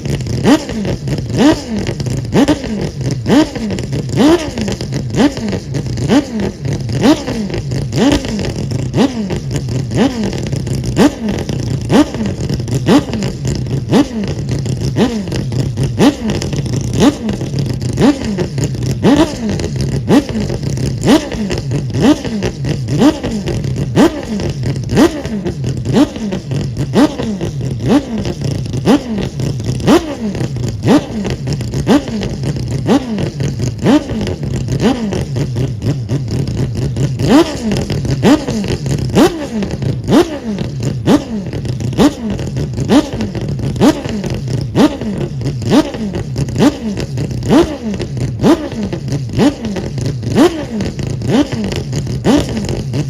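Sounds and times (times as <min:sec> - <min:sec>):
rotary engine revving: 0:00.0 - 0:53.0.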